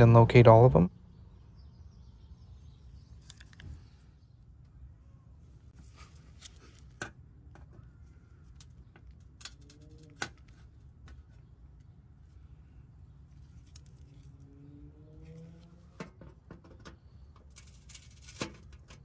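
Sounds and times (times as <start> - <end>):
low steady background rumble: 0.0 - 19.0.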